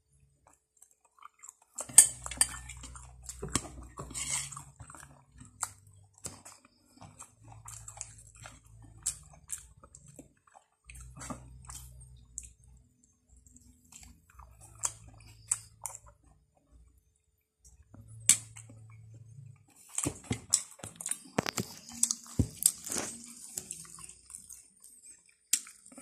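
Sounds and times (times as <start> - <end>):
chewing and mouth clicks: 0.4 - 26.0.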